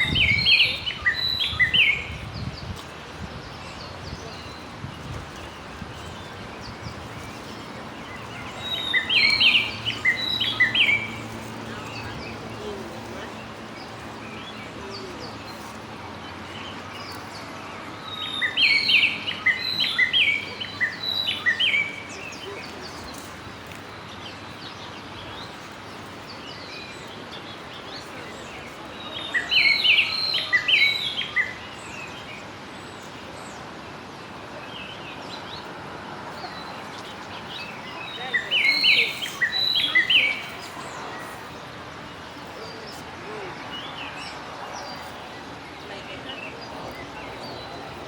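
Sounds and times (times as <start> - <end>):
songbird chirping: 0.0 - 48.0
steady outdoor hiss: 0.0 - 48.0.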